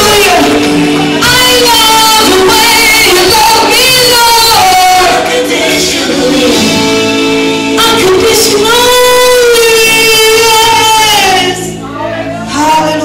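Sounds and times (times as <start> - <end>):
person singing gospel: 0.0 - 13.0
sustained instrumental chords: 0.0 - 13.0.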